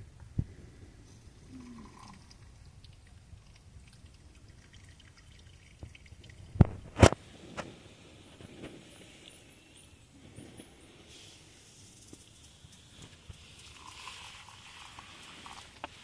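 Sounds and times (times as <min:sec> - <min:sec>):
faint low background noise: 0:00.0 - 0:16.0.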